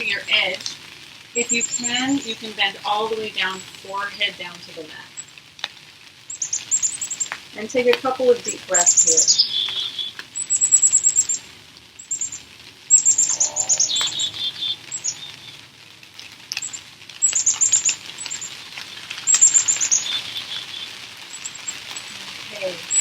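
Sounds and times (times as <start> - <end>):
songbird singing high notes: 0.0 - 0.7, 1.4 - 5.3, 6.3 - 11.4, 12.0 - 15.6, 16.6 - 23.0
light rain hiss: 0.0 - 23.0.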